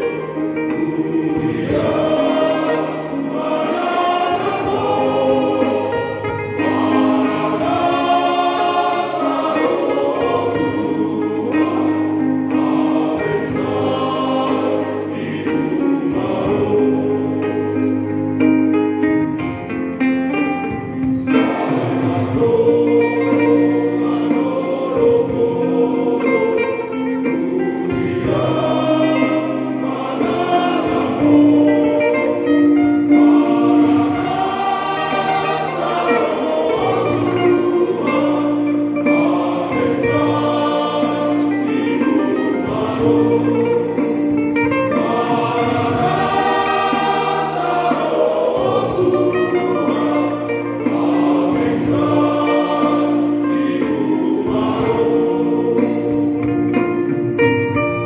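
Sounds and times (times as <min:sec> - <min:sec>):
acoustic guitar: 0:00.0 - 0:58.0
men's choir singing a hymn: 0:00.0 - 0:58.0.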